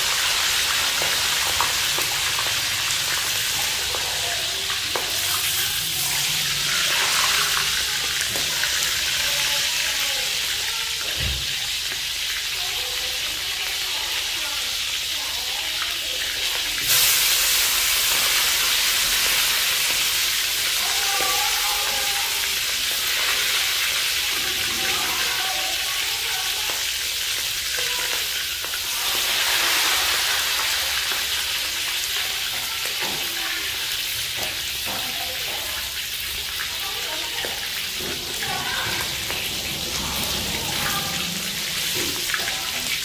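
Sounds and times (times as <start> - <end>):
deep-frying sizzle in oil: 0.0 - 43.0.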